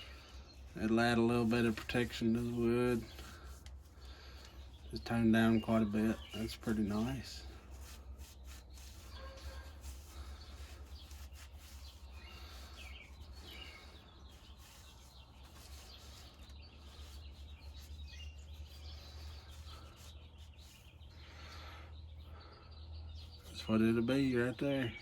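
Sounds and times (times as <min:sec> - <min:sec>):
faint bird chirps: 0:00.0 - 0:25.0.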